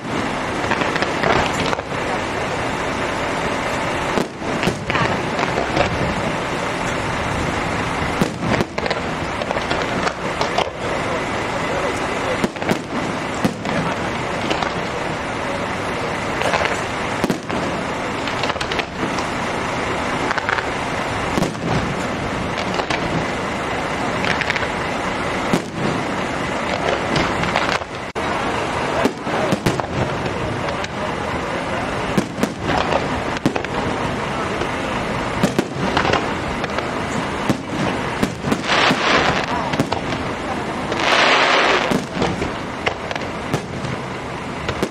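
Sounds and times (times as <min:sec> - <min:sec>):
fireworks bursting with sharp bangs: 0:00.0 - 0:44.9
steady background noise: 0:00.0 - 0:44.9.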